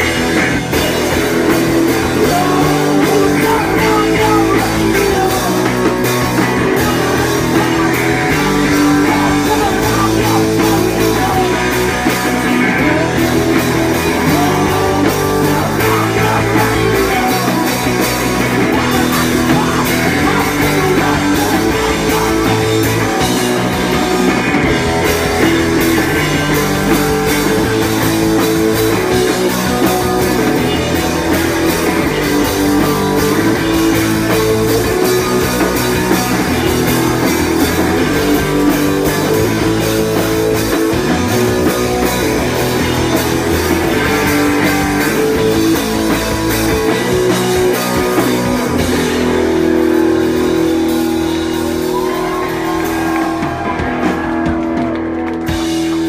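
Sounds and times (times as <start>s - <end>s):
drum kit: 0.0s - 56.0s
electric bass: 0.0s - 56.0s
electric guitars: 0.0s - 56.0s.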